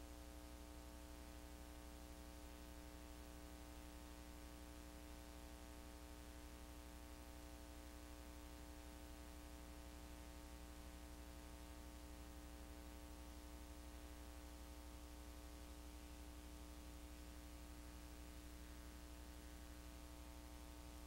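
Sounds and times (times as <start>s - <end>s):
faint hum with hiss: 0.0s - 21.0s.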